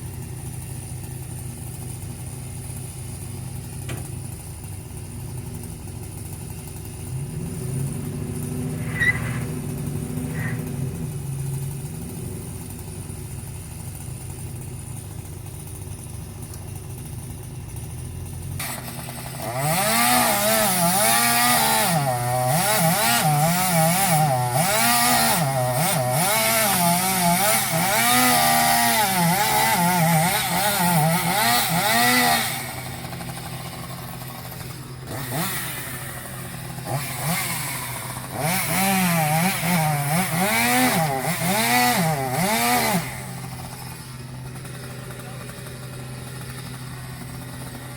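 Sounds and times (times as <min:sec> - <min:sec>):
chainsaw idling and cutting wood: 0:00.0 - 0:47.9.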